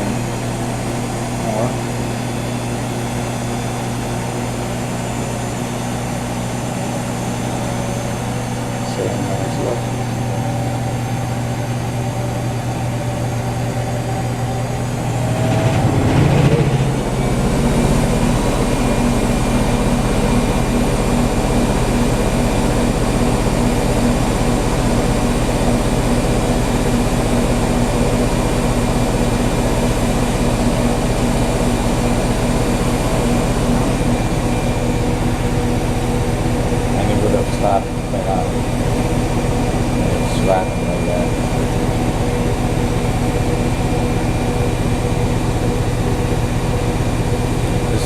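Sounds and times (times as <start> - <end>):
washing machine spinning: 0.0 - 48.0.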